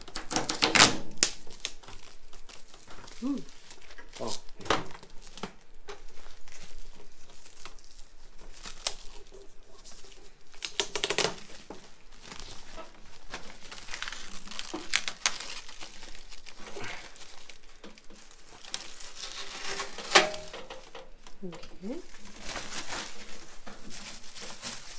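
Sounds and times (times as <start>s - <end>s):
plastic ripping: 0.0s - 24.9s
plastic wrapping crinkling: 0.0s - 24.9s.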